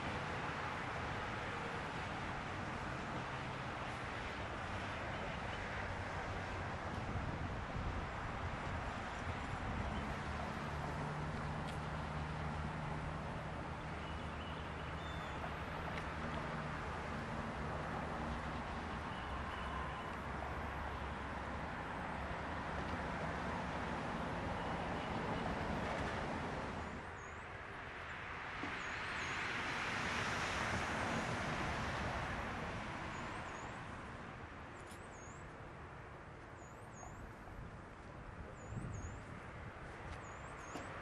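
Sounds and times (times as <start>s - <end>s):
road traffic: 0.0s - 41.0s.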